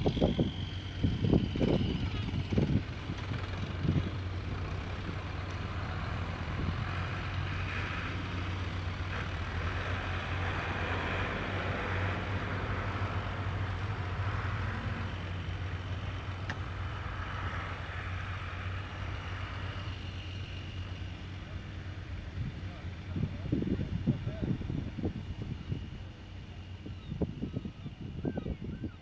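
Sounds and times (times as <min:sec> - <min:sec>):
tractor diesel engines running: 0:00.0 - 0:29.0.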